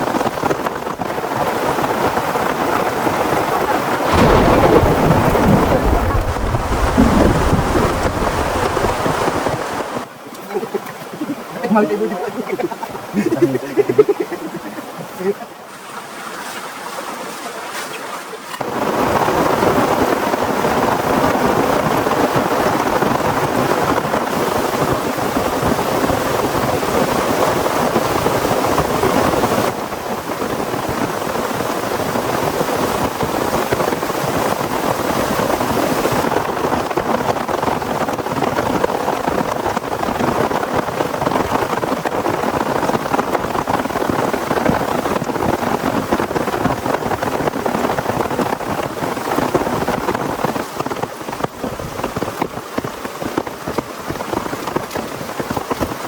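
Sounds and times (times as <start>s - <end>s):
heavy rain pouring: 0.0s - 15.5s, 18.6s - 56.0s.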